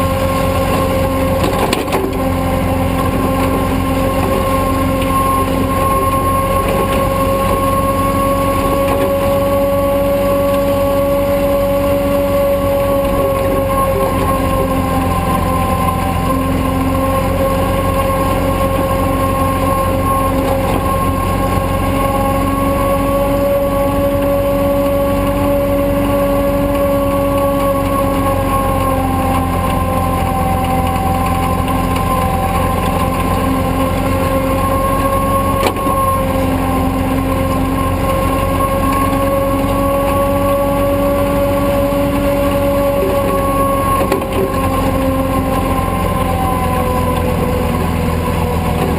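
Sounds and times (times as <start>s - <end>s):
truck engine droning with whine: 0.0s - 48.9s.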